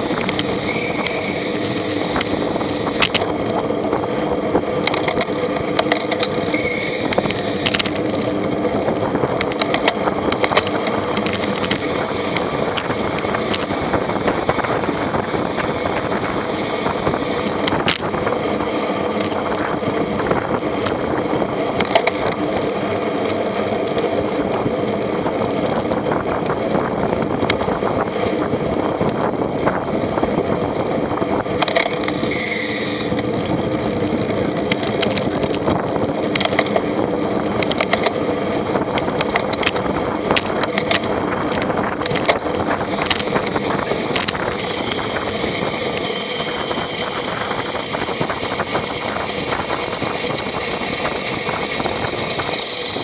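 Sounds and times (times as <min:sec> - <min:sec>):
sharp clicks and rattles: 0:00.0 - 0:53.0
vehicle engine under load: 0:00.0 - 0:53.0.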